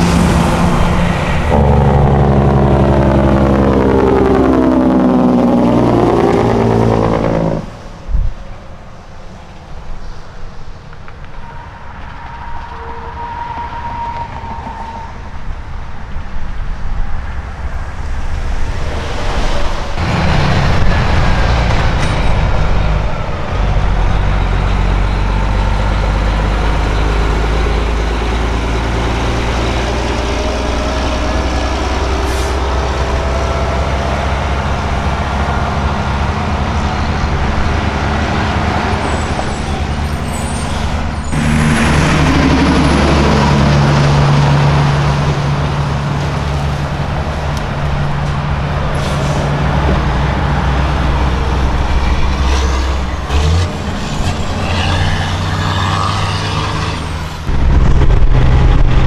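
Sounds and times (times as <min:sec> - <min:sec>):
loud truck engine: 0:00.0 - 0:08.1, 0:17.1 - 0:59.0
truck engines running: 0:00.0 - 0:59.0.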